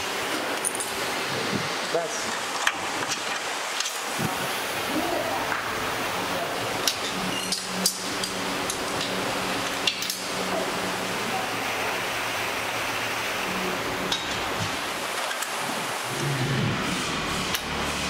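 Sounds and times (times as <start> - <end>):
steady workshop hum: 0.0 - 18.0.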